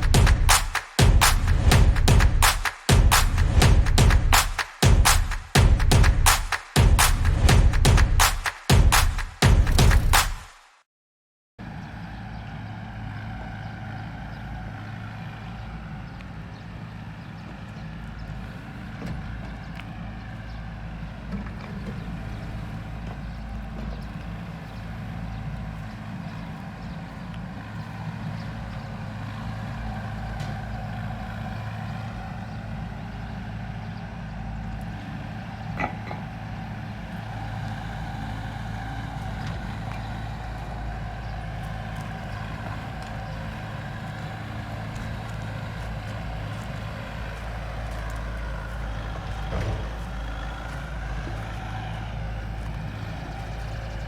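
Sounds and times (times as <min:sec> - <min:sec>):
heavy machinery engine running: 0:00.0 - 0:10.3, 0:11.6 - 0:54.0.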